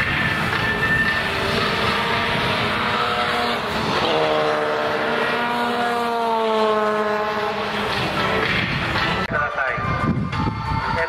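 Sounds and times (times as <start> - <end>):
rotary engine car approaching: 0.0 - 11.0.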